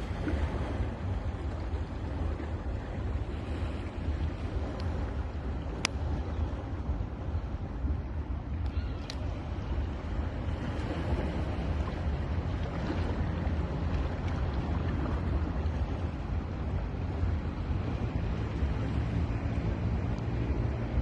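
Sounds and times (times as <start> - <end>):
ocean surf rushing: 0.0 - 21.0
wind rumble on microphone: 0.0 - 21.0.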